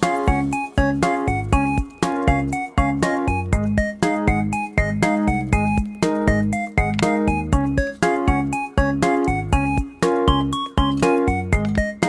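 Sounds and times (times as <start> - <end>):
playful keyboard tune with beat: 0.0 - 12.0.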